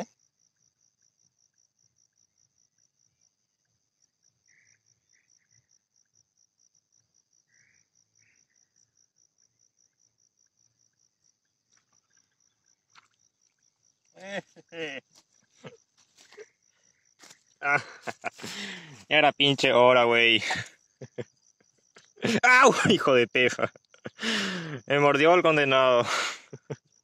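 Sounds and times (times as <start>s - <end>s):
faint insect chirping: 0.0s - 27.0s
soft higher insect calls: 0.0s - 27.0s.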